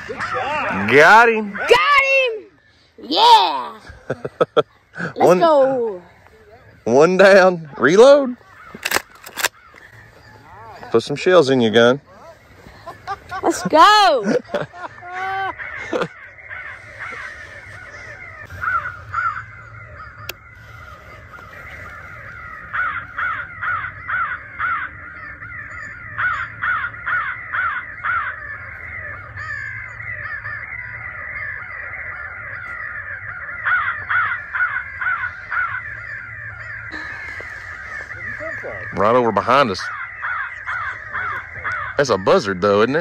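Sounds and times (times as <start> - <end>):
loud crow caws: 0.0 - 2.9, 6.2 - 12.9, 13.5 - 43.0
crows cawing: 0.0 - 43.0.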